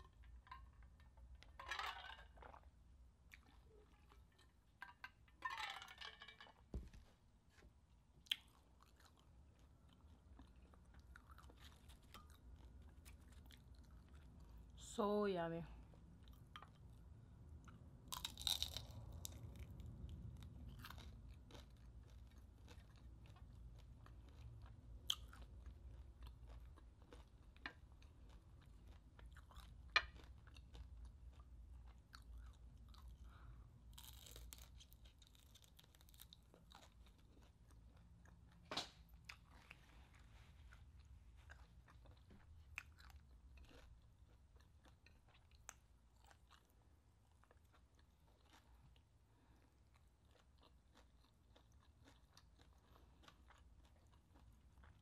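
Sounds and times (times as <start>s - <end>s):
chewing crispy fried food: 0.0s - 4.9s, 7.5s - 55.0s.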